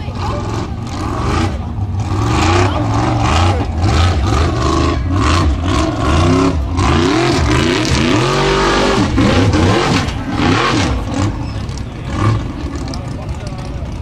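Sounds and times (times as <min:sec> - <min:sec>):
buggy engine revving hard: 0:00.0 - 0:14.0.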